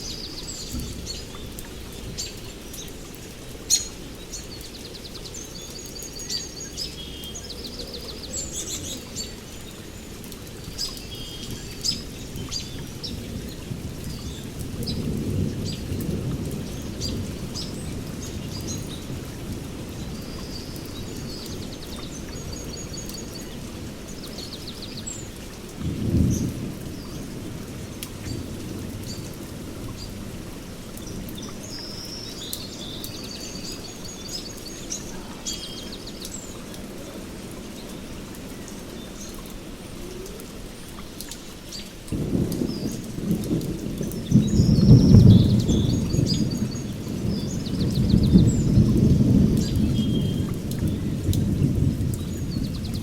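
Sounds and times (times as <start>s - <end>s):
heavy rain: 0.0s - 53.0s
small birds chirping: 0.0s - 53.0s.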